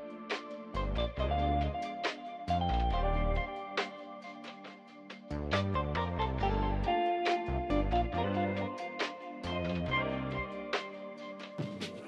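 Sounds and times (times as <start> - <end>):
instrumental music with light beat: 0.0 - 12.0.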